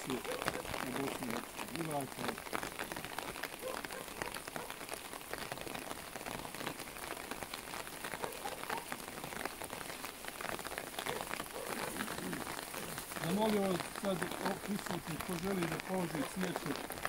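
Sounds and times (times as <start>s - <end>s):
rain on umbrellas: 0.0s - 17.0s.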